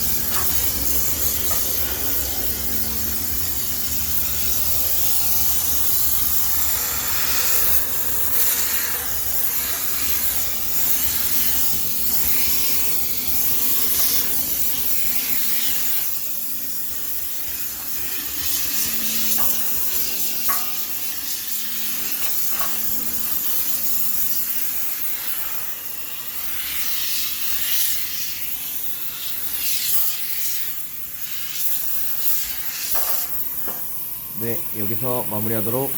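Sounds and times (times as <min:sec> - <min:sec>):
steam cleaner hissing: 0:00.0 - 0:35.9.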